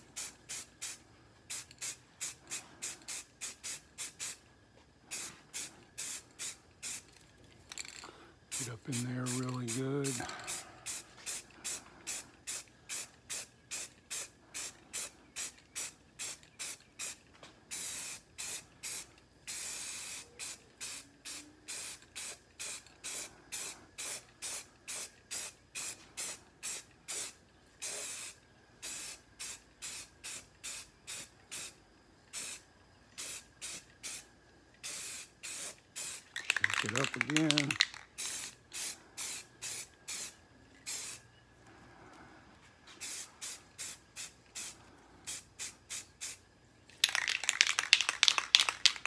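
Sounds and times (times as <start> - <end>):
spray paint can hissing: 0.0 - 41.2, 42.9 - 49.0.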